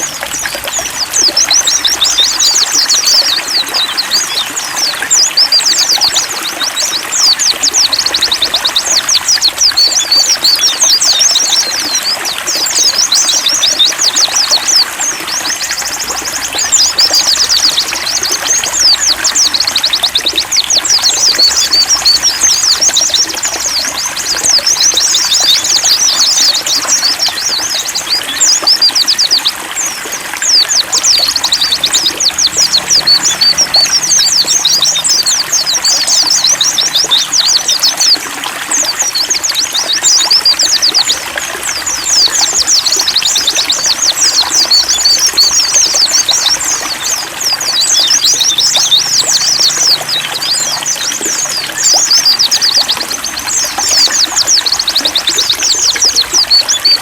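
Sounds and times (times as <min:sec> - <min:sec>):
birds twittering: 0:00.0 - 0:57.0
running water trickling: 0:00.0 - 0:57.0.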